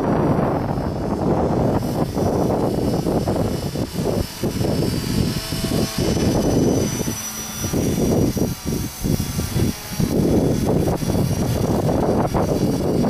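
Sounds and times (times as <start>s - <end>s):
rc helicopter whine: 0.0s - 13.0s
wind buffeting microphone: 0.0s - 13.0s.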